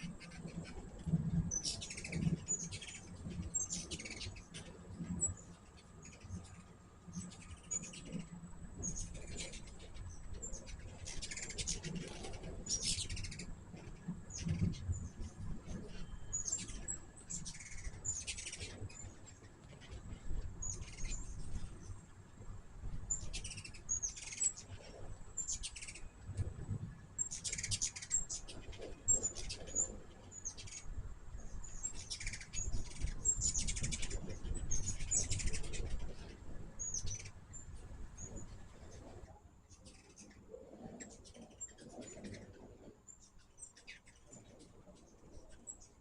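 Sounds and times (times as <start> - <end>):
hummingbirds chipping and chattering: 0.0 - 46.0.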